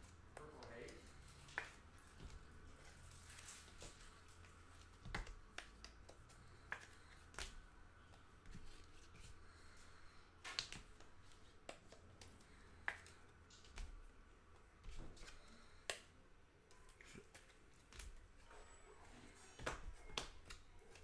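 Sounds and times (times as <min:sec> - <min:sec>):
cards clicking and tapping: 0:00.1 - 0:09.8, 0:10.4 - 0:18.4, 0:19.6 - 0:21.0.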